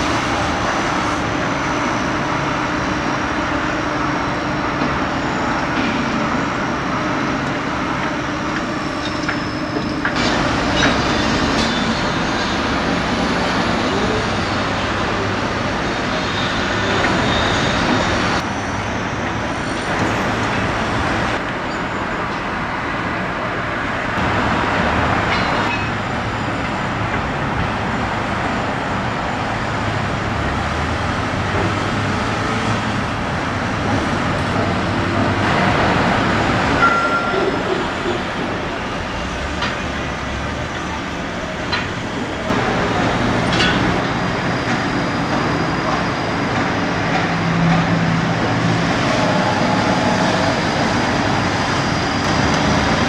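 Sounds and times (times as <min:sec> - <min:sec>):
engines droning: 0:00.0 - 0:53.0.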